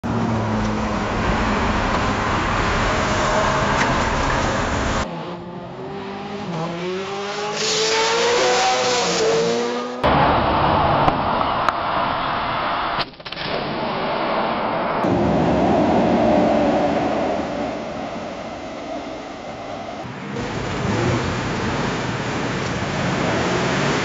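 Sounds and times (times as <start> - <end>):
car engine running hard: 0.0 - 12.0, 15.0 - 24.0
road noise: 0.0 - 13.0, 13.8 - 24.0.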